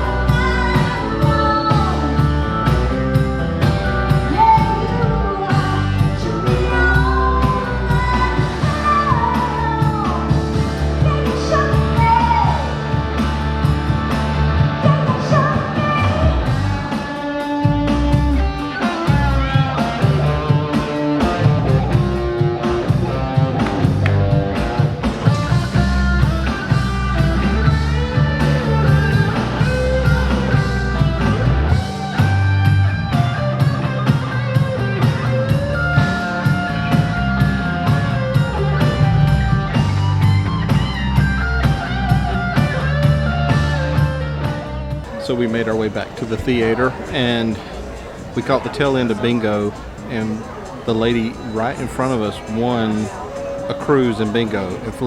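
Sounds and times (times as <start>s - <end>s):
rock music with singing: 0.0s - 55.0s.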